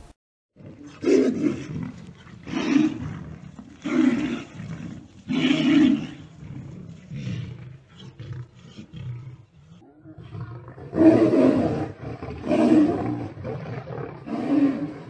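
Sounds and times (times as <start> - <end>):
lions roaring: 0.6 - 15.0
low growling: 0.6 - 15.0.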